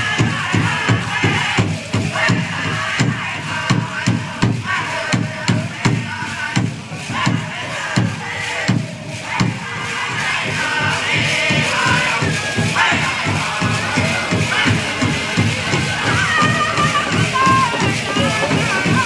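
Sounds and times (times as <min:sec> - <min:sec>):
drum beating steadily: 0:00.0 - 0:19.0
group of singers chanting: 0:00.0 - 0:19.0.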